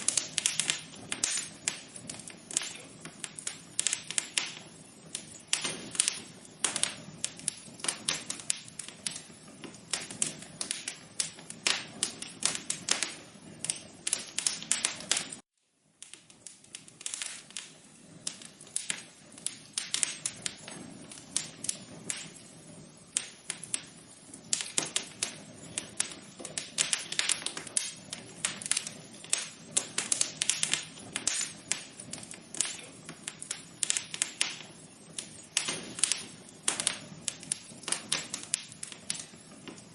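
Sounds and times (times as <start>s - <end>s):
low hiss: 0.0s - 39.9s
wood fire crackling: 0.0s - 39.9s.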